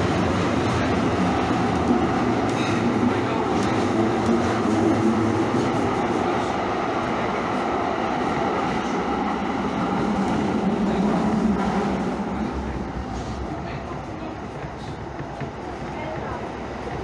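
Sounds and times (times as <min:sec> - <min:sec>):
light-rail train wheels rumbling: 0:00.0 - 0:17.0.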